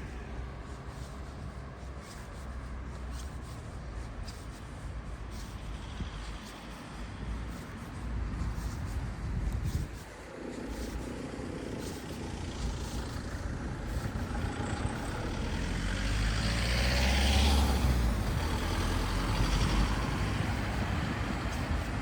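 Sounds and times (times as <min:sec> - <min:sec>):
light ticks and scuffs: 0:00.0 - 0:22.0
street rumble: 0:00.0 - 0:22.0.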